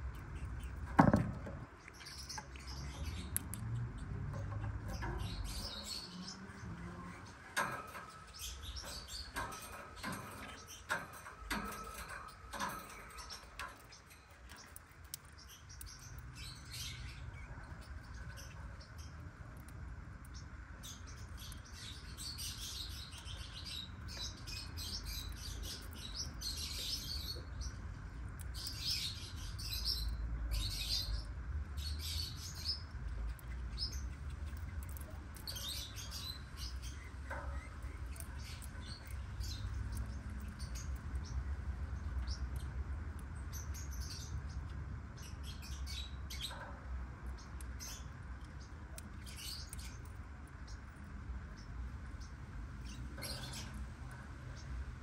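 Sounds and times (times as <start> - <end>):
lovebirds chirping: 0.0 - 55.0
steady low hum: 0.0 - 55.0.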